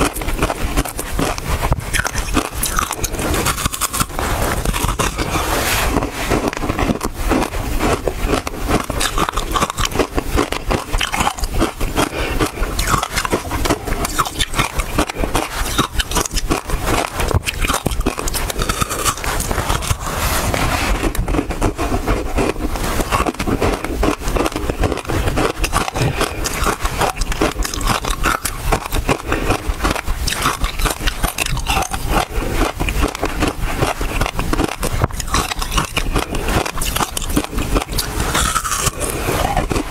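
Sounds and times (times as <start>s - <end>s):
ice crunching in mouth: 0.0s - 39.9s.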